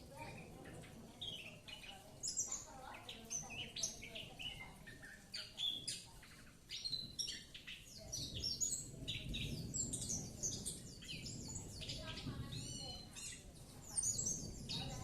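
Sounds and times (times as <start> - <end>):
songbird chirping and trilling: 0.0 - 15.0.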